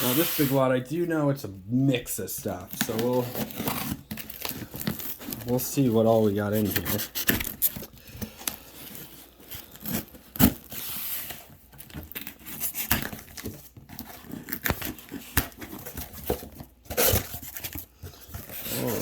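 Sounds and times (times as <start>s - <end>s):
plastic packaging crinkling: 2.5s - 19.0s.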